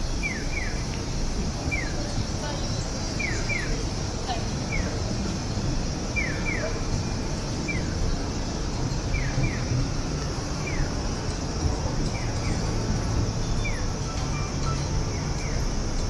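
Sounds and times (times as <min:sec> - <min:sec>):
cicadas buzzing: 0:00.0 - 0:16.0
traffic and crowd rumble: 0:00.0 - 0:16.0.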